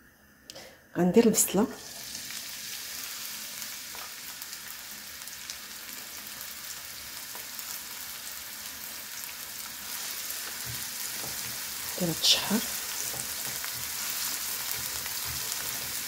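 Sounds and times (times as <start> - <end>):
onion sizzling in hot oil: 1.4 - 16.0.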